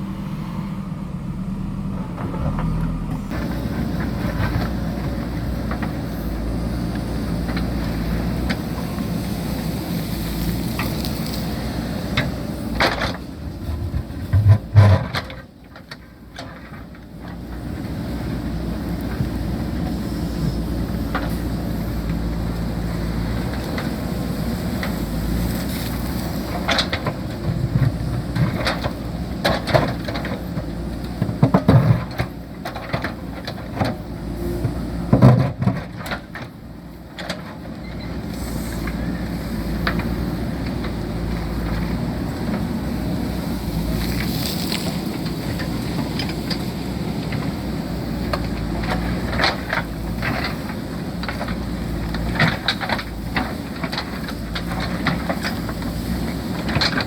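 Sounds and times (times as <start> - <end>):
diesel engine working: 0.0 - 57.0.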